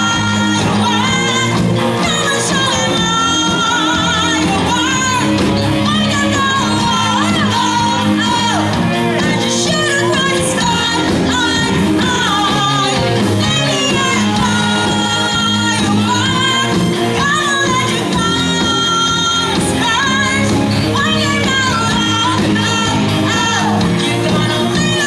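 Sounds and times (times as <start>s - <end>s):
lead singer: 0.0s - 25.0s
live pop-rock band: 0.0s - 25.0s.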